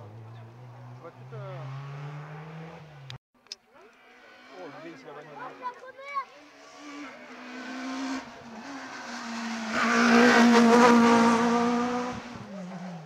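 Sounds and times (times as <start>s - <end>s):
rally car engine at high revs: 0.0s - 3.2s, 4.1s - 13.0s.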